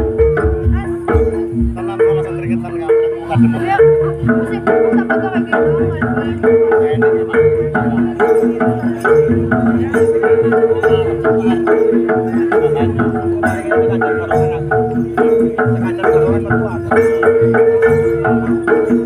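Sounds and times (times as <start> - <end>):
hand drum strokes: 0.0 - 19.0
ringing tuned percussion: 0.0 - 19.0.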